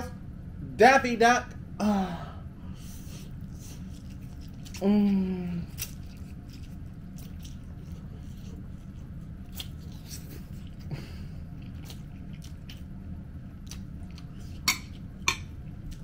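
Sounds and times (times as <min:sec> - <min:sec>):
low hum: 0:00.0 - 0:16.0
person chewing: 0:02.8 - 0:16.0.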